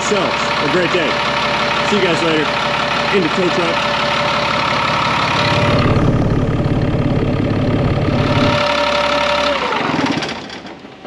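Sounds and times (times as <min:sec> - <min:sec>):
diesel engine idling: 0:00.0 - 0:11.0
engine whine: 0:00.0 - 0:11.0.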